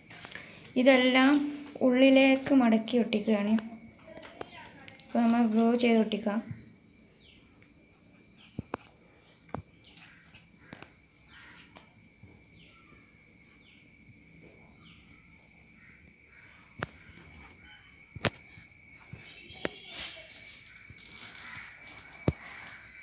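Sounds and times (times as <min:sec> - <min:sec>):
faint high whine: 0:00.0 - 0:23.0.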